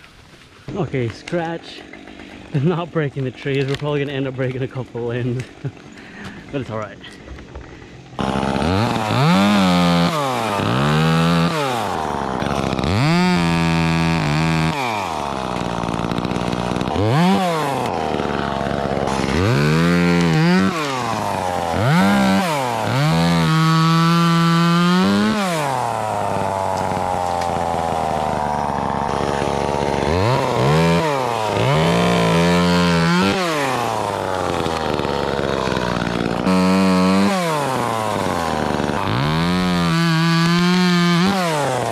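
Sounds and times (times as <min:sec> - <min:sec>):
chainsaw cutting limbs: 0:00.0 - 0:41.9.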